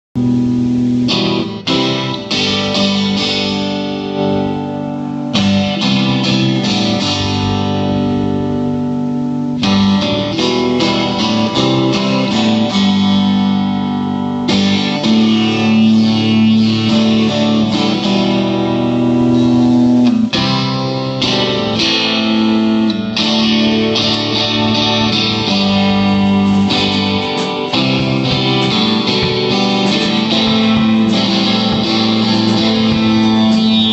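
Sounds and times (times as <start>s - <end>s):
acoustic guitar strumming chords: 0.2s - 33.9s.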